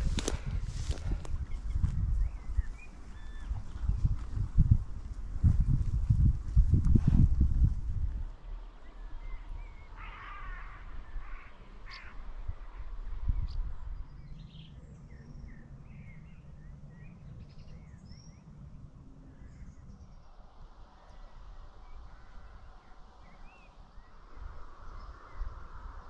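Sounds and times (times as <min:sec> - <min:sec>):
birds chirping: 0:00.0 - 0:05.9, 0:08.2 - 0:26.0.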